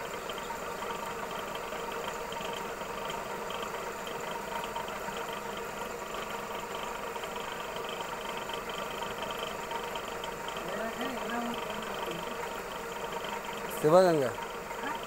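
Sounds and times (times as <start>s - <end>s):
warping machine whirring: 0.0s - 15.0s.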